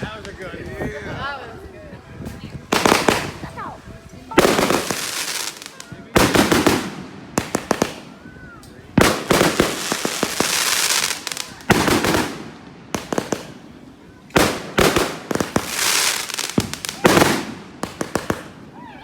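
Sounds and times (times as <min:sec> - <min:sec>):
fireworks bangs and crackle: 0:02.3 - 0:18.8.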